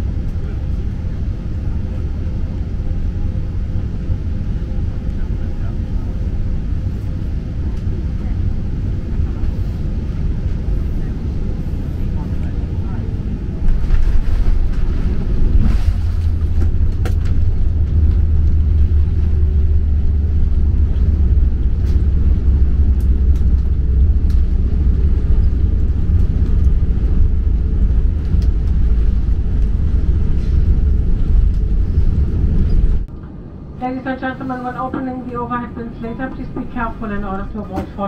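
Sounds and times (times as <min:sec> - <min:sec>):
airplane cabin low rumble: 0:00.0 - 0:38.0.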